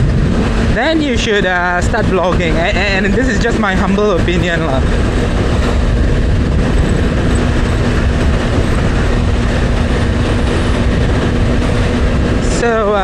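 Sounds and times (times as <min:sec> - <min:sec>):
motorcycle engine hum: 0:00.0 - 0:13.0
wind rushing over microphone: 0:00.0 - 0:13.0.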